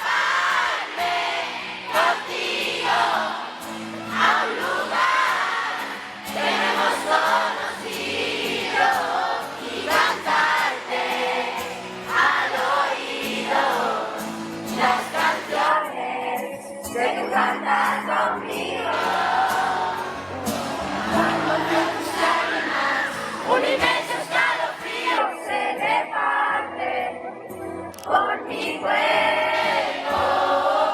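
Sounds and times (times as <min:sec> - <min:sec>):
crowd singing along: 0:00.0 - 0:30.9
live pop song through a pa: 0:00.0 - 0:30.9.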